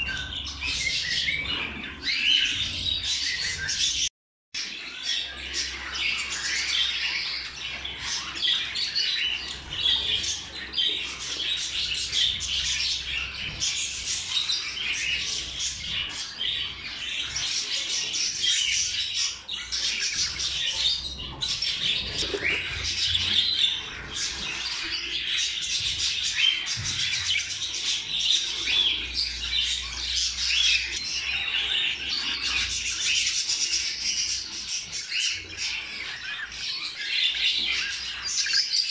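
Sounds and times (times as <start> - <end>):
budgerigars chattering: 4.9 - 38.9.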